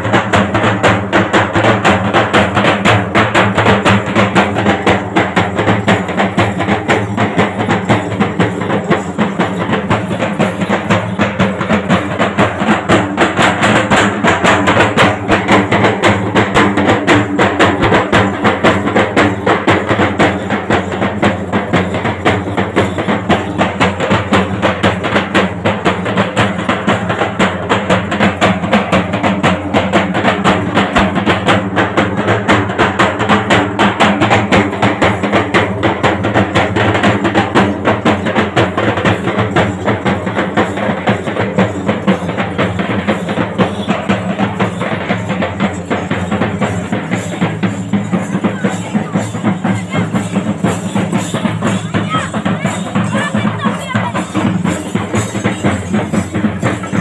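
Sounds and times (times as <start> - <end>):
barrel drums beaten with sticks: 0.0 - 57.0.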